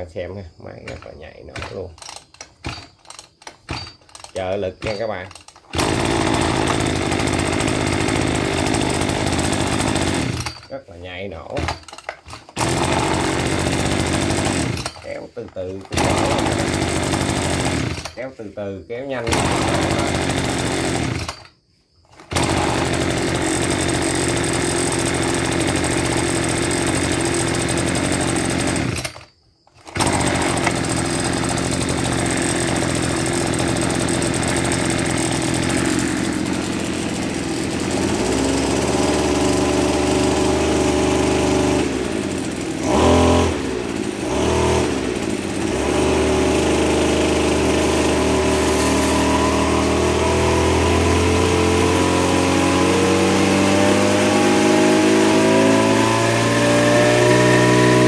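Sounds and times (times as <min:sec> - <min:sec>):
brush cutter engine revving: 0:00.7 - 0:21.5, 0:22.2 - 0:58.0
cutting blade spinning: 0:00.9 - 0:10.8, 0:11.4 - 0:18.4, 0:19.2 - 0:21.5, 0:22.2 - 0:58.0.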